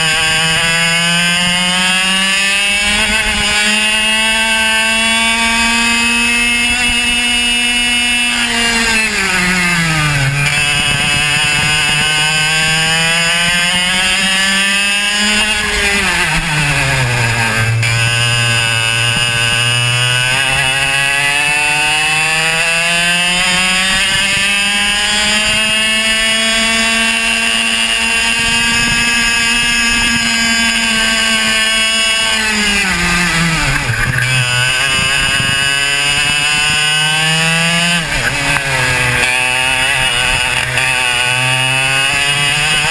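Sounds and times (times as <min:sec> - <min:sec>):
kart engine revving: 0:00.0 - 0:42.9.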